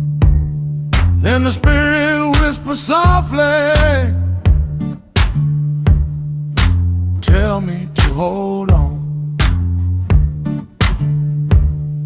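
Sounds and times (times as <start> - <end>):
blues guitar notes ringing: 0.0 - 12.0
heavy drum beat: 0.1 - 12.0.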